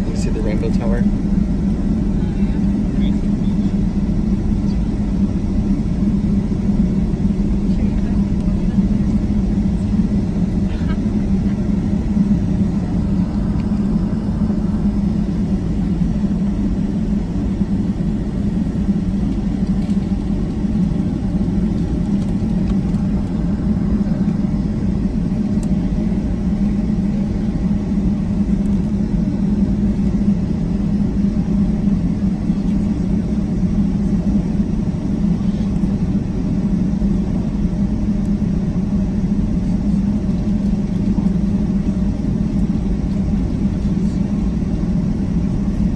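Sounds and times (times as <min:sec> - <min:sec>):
airplane cabin rumble: 0:00.0 - 0:45.9
constant hum: 0:00.0 - 0:45.9.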